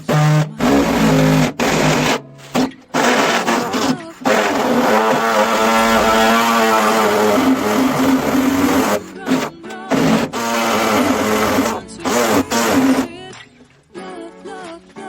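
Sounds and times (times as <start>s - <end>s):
rock music with guitars: 0.0s - 15.0s.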